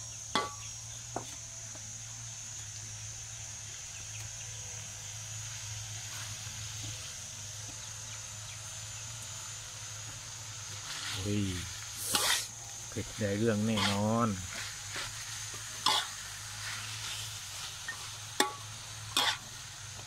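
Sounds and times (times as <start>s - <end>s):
high-pitched hiss: 0.0s - 20.0s.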